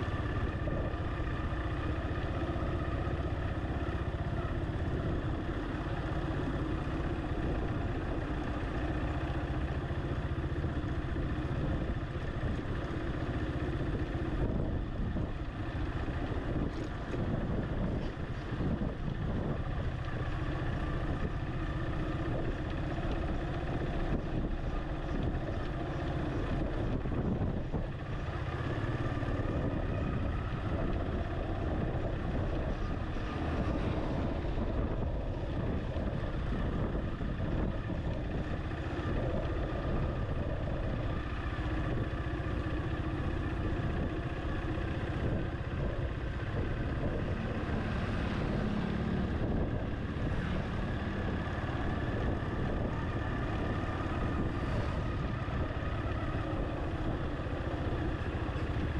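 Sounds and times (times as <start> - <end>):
road noise: 0.0 - 58.9
vehicle engine running: 0.0 - 58.9.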